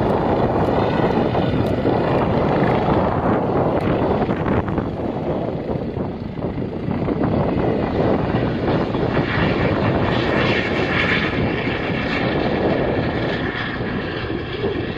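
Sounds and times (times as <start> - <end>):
helicopter rotor and turbine: 0.0 - 14.9
high turbine whine: 0.0 - 14.9.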